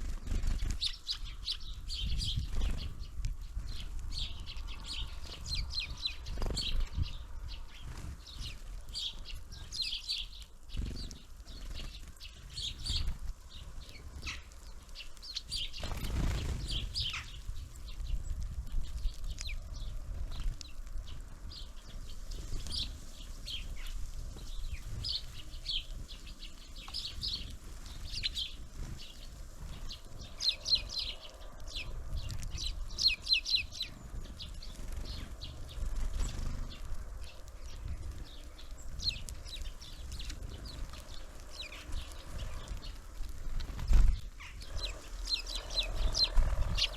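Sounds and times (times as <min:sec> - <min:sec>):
bird wingbeats: 0:00.0 - 0:01.4, 0:02.2 - 0:03.2, 0:03.8 - 0:46.9
songbirds chirping: 0:00.0 - 0:46.9.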